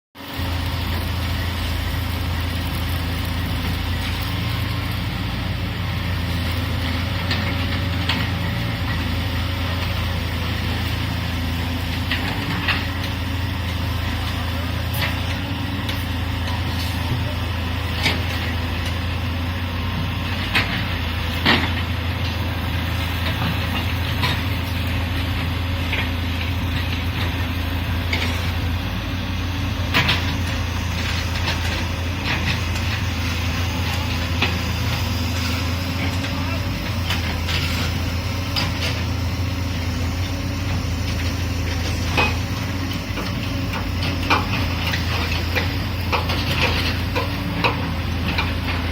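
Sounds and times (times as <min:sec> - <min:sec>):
excavator diesel engine drone: 0:00.2 - 0:48.9.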